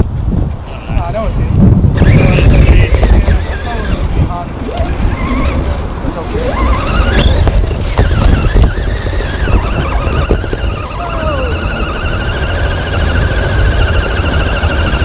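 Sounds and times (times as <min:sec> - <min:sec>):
wind rumbling on microphone: 0:00.0 - 0:15.0
electric motor and gears whining: 0:00.7 - 0:15.0.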